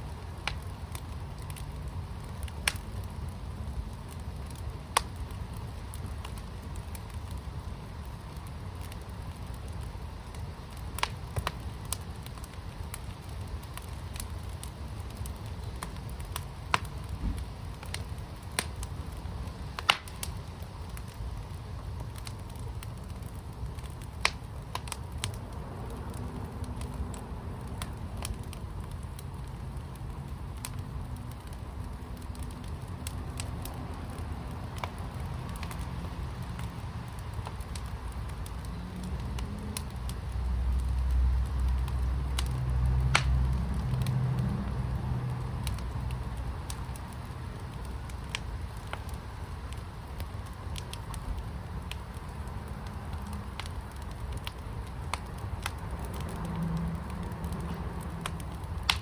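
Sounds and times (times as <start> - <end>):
sharp pops of fire: 0.0 - 59.0
wood fire crackling: 0.0 - 59.0.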